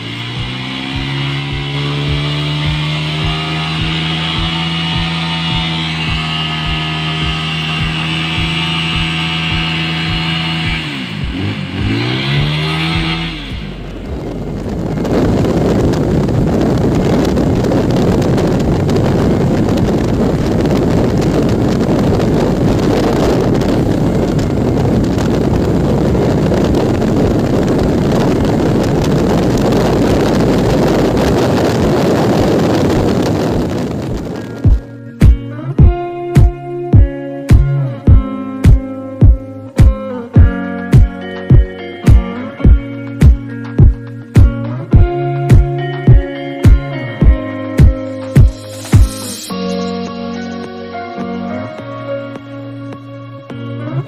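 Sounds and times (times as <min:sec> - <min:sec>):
wind buffeting microphone: 0:00.0 - 0:49.2
motorcycle engine revving: 0:00.0 - 0:49.5.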